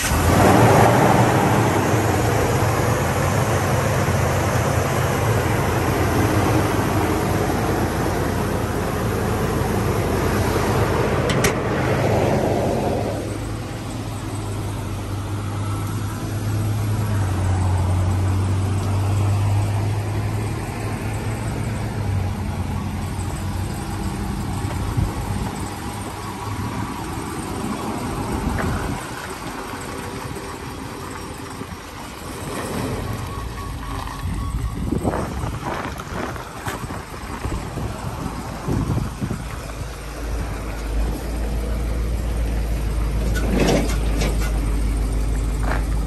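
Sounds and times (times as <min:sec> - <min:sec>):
engine idling hum: 0:00.0 - 0:46.0.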